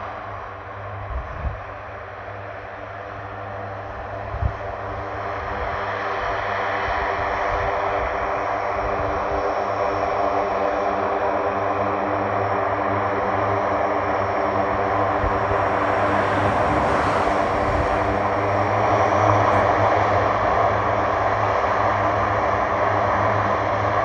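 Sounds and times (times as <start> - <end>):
propeller aircraft drone: 0.0 - 24.0.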